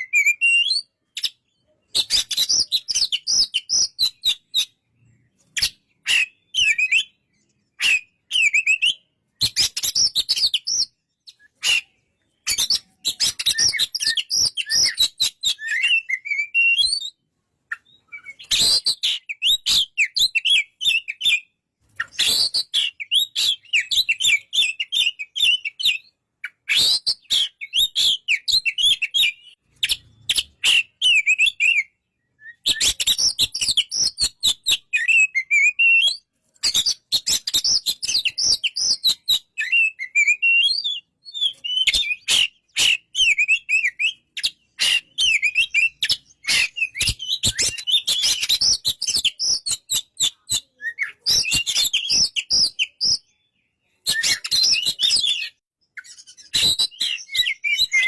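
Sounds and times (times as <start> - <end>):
magpie-robin warbling and whistling: 0.0 - 58.0.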